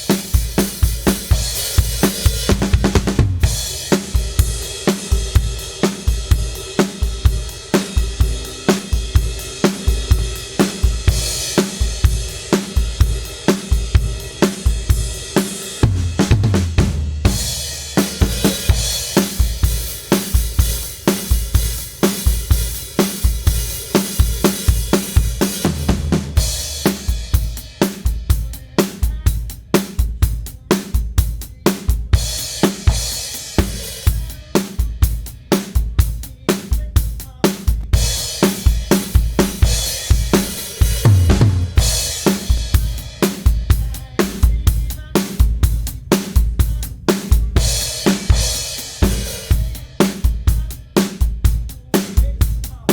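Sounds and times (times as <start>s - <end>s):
drum kit groove: 0.0s - 52.9s.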